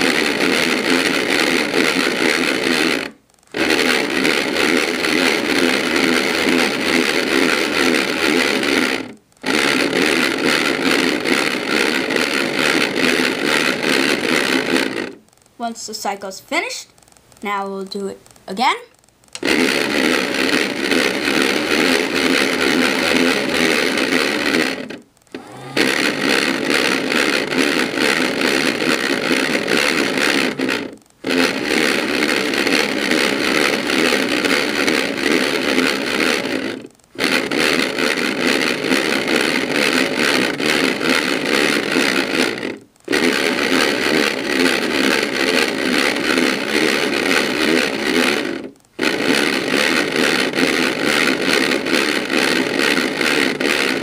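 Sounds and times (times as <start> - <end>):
toy washing machine whirring: 0.0 - 54.0.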